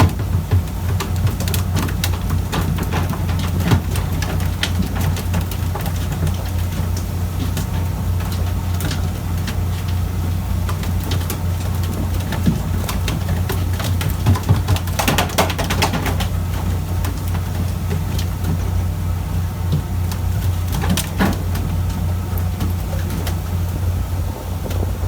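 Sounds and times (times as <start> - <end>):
boat diesel engine droning: 0.0 - 25.0.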